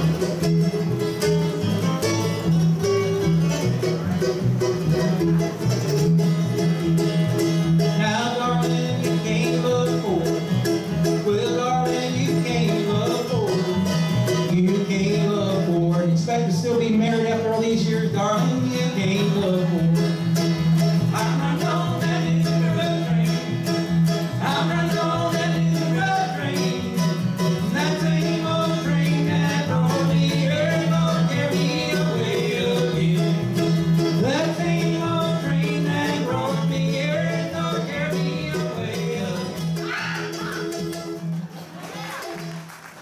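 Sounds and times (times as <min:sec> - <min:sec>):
upright bass: 0:00.0 - 0:42.6
mandolin: 0:00.0 - 0:42.8
acoustic guitar: 0:00.0 - 0:43.0.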